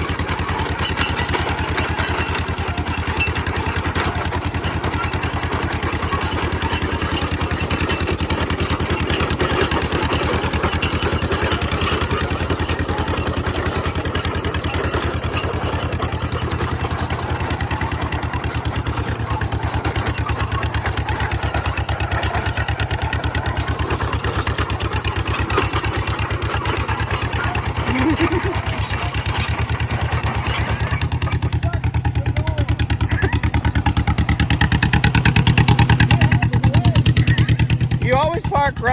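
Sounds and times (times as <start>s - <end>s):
two-cylinder engine running: 0.0s - 38.9s.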